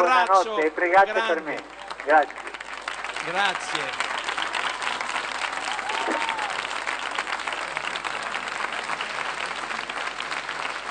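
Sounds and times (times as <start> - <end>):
large crowd applauding: 1.2 - 10.9.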